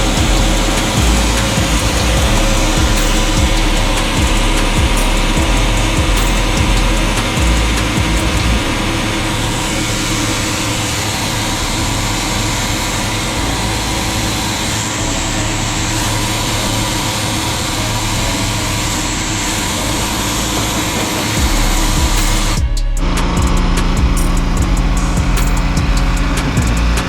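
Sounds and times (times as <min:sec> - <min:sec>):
machinery engine droning: 0:00.0 - 0:27.0.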